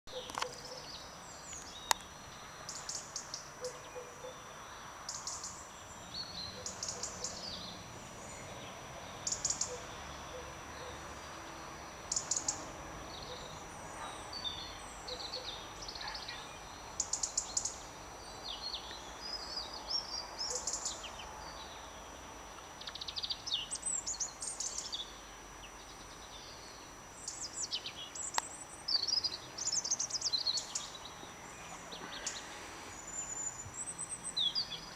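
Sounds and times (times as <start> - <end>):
outdoor background hiss: 0.1 - 34.9
small birds chirping: 0.1 - 34.9.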